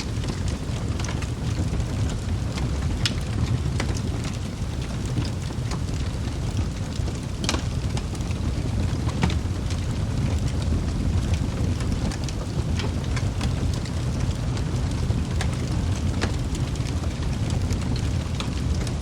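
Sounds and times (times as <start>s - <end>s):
flames roaring: 0.0s - 19.0s
logs crackling and popping: 0.0s - 19.0s.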